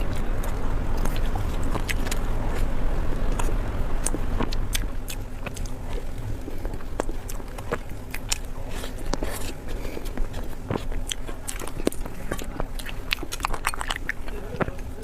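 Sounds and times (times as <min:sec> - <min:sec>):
chewing and biting: 0:00.0 - 0:15.0
mouth clicks and smacks: 0:00.0 - 0:15.0.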